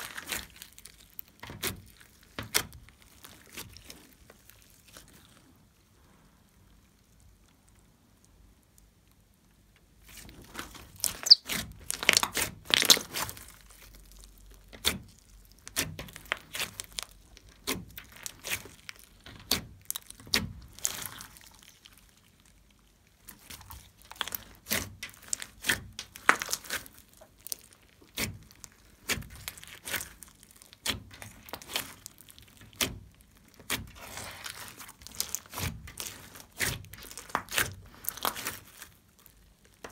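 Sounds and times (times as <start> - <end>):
slime wet crackling: 0.0 - 9.3, 10.1 - 39.9.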